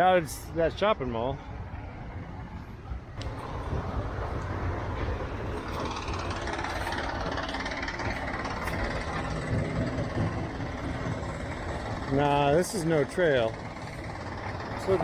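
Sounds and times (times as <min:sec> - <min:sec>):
road traffic rumble: 0:00.0 - 0:15.0
vehicle passing: 0:01.2 - 0:15.0.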